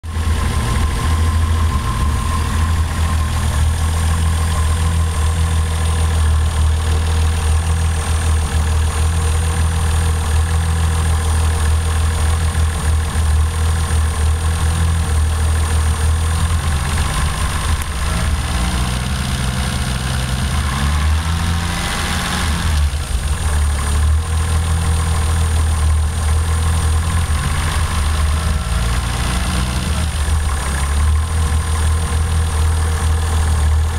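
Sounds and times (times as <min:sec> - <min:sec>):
engine idling with misfires: 0:00.0 - 0:33.9.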